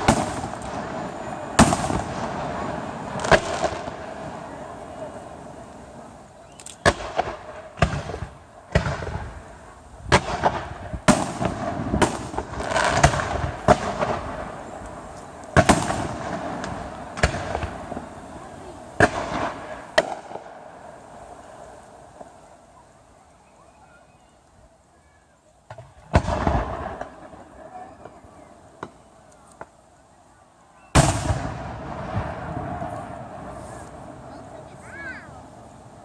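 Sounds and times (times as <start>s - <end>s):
crackling firework bangs: 0.0s - 24.3s, 25.6s - 30.0s, 30.8s - 36.0s.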